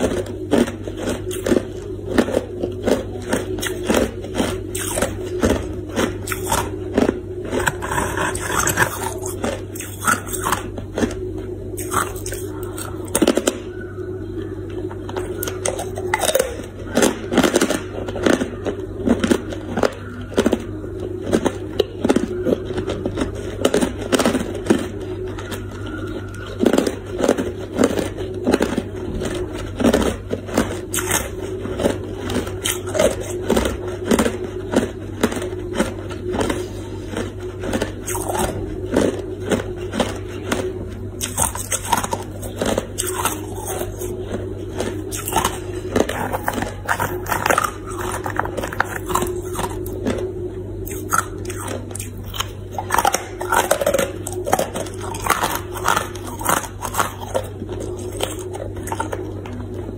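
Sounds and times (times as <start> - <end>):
faint low hum: 0.0 - 59.9
ice being chewed: 0.0 - 59.9.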